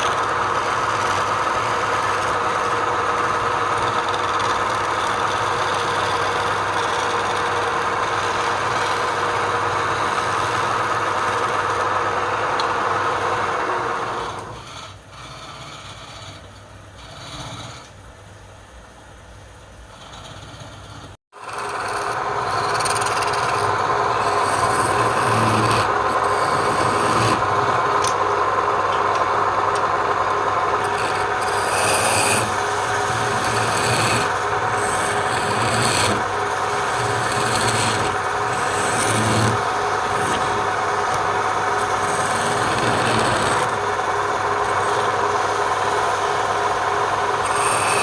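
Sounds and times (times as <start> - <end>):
wood lathe whirring: 0.0 - 17.9, 19.9 - 48.0
tool scraping spinning wood: 0.0 - 18.1, 19.6 - 48.0.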